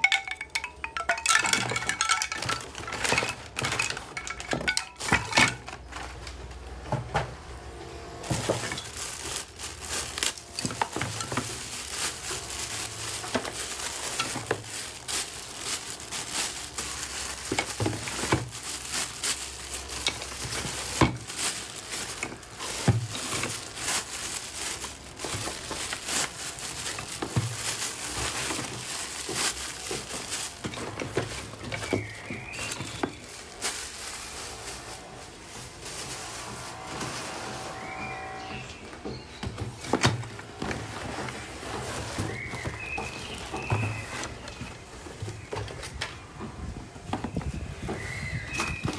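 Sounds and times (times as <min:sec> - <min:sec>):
plastic bags crinkling: 0:00.0 - 0:06.9, 0:08.1 - 0:48.9.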